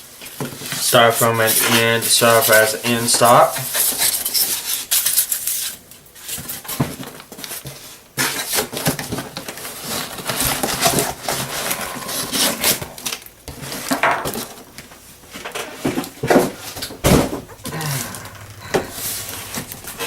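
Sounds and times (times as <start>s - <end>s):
cardboard rustling and scraping: 3.6s - 20.0s.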